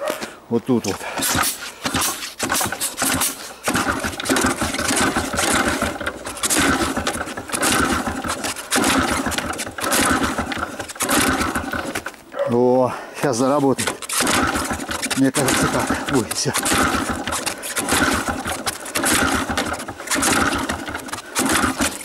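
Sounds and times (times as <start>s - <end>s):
motorcycle engine spluttering: 0.9s - 12.2s, 13.3s - 22.0s.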